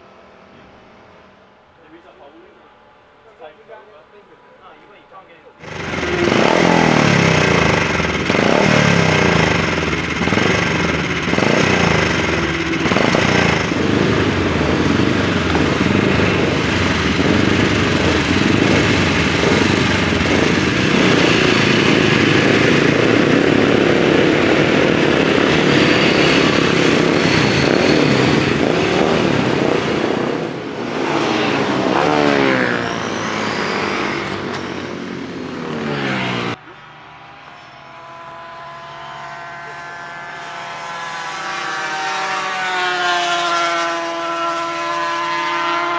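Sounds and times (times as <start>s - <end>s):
motorcycle engines revving: 5.6s - 45.9s.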